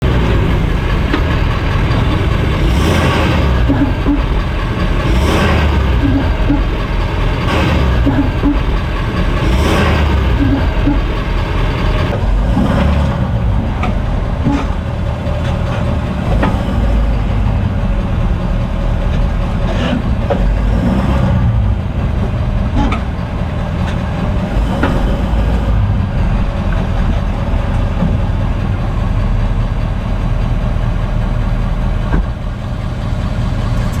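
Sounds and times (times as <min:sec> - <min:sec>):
drivetrain clunking: 0:00.0 - 0:28.8, 0:32.0 - 0:34.0
truck running noise: 0:00.0 - 0:34.0.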